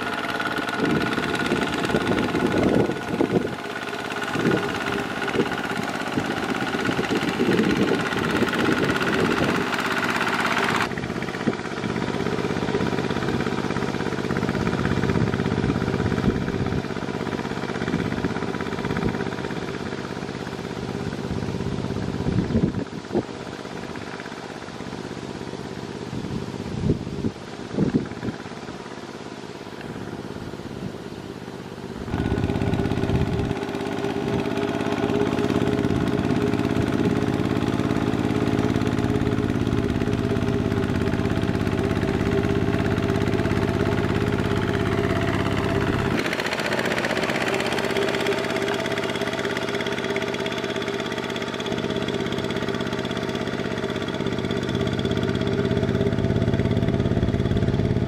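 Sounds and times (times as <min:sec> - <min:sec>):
walking tractor engine running: 0:00.0 - 0:58.0
wheels churning through mud: 0:00.0 - 0:58.0.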